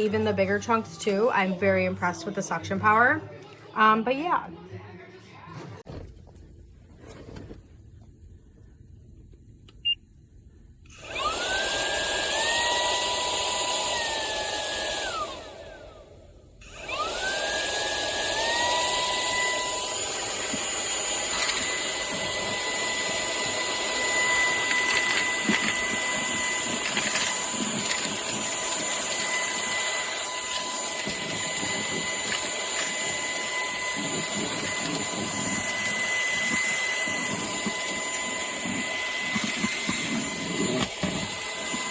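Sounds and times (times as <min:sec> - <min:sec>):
handheld vacuum whining: 0:00.0 - 0:03.0, 0:10.8 - 0:41.9.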